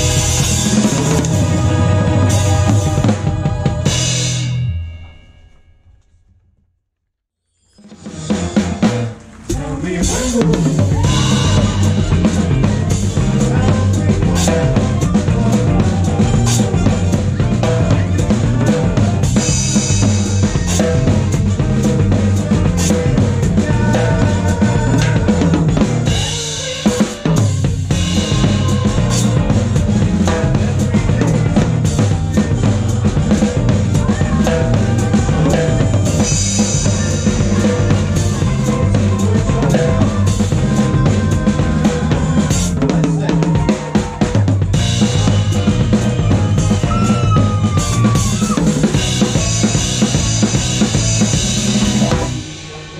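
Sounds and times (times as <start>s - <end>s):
bass line: 0.0s - 5.0s, 7.8s - 52.9s
drum kit played hard: 0.0s - 5.1s, 7.8s - 52.9s
guitar: 0.0s - 6.1s, 7.7s - 52.9s.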